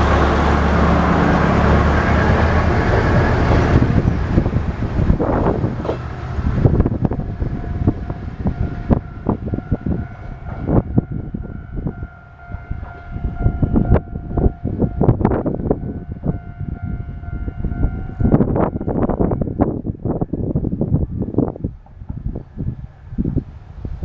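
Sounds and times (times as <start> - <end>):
wind gusts on microphone: 0.0 - 24.0.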